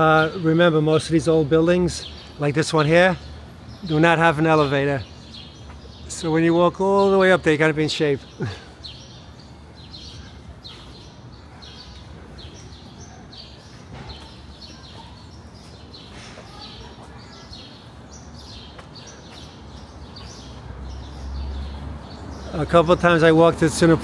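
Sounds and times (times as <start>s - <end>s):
city traffic hum: 0.0s - 24.0s
small birds chirping: 0.0s - 24.0s.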